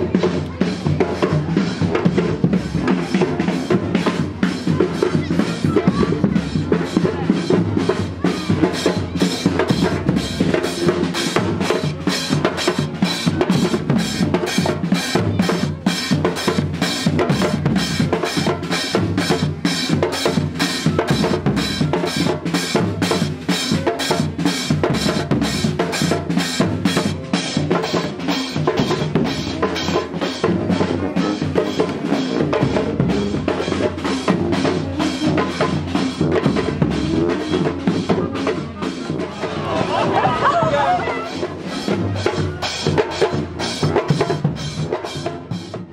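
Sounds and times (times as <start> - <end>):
steady drumming: 0.0 - 45.9.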